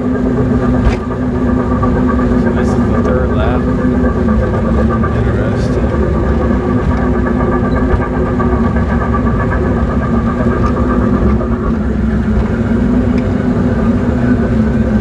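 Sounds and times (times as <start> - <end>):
ride train droning on track: 0.0 - 15.0.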